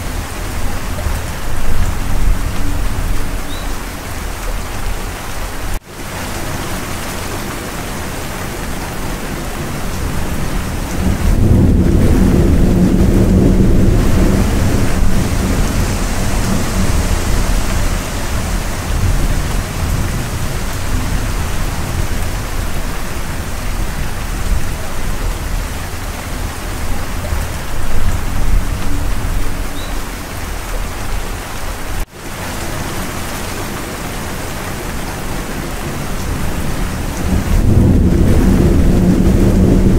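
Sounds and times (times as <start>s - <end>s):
thunder rumbling: 0.0s - 5.4s, 6.1s - 31.3s, 32.8s - 39.9s
heavy rain: 0.0s - 39.9s.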